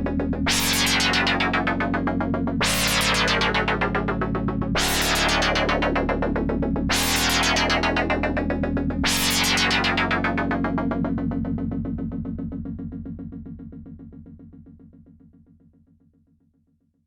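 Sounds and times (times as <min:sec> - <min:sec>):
low synth bass notes: 0:00.0 - 0:15.0.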